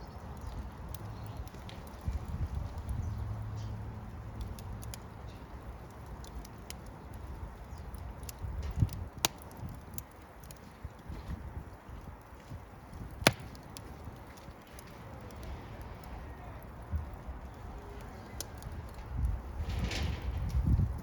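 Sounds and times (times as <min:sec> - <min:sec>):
low rumble of burning: 0:00.0 - 0:21.0
wood fire crackling: 0:00.0 - 0:21.0.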